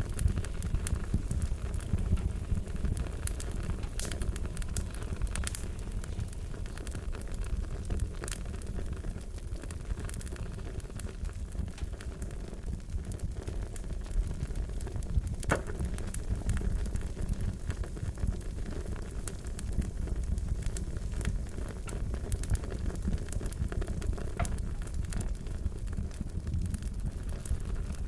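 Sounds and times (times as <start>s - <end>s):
fire burning: 0.0s - 28.0s
fire crackles and pops: 0.0s - 28.0s.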